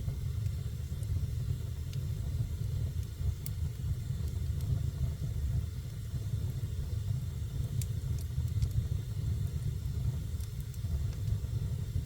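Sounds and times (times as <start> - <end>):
fire flames rumbling: 0.0 - 12.0.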